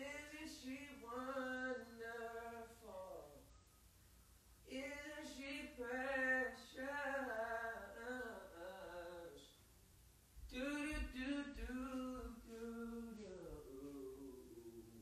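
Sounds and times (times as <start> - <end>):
person singing unaccompanied: 0.0 - 3.6, 4.6 - 9.6, 10.4 - 15.0.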